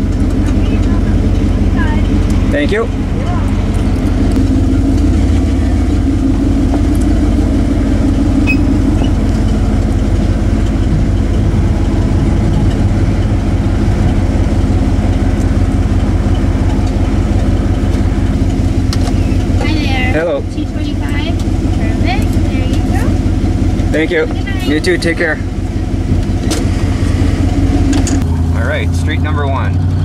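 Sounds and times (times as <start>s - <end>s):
truck engine idling: 0.0s - 30.0s.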